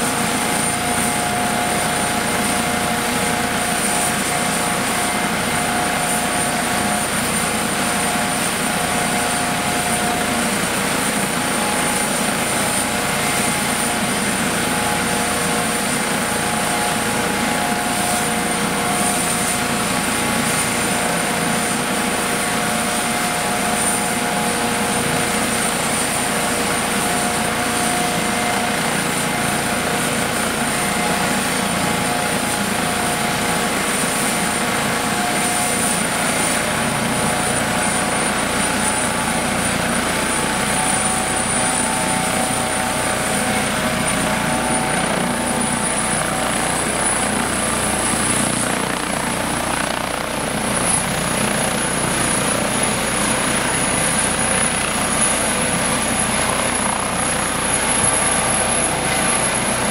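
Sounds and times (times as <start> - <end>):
helicopter rotor and engine noise: 0.0 - 59.9
helicopter turbine whine: 0.0 - 59.9.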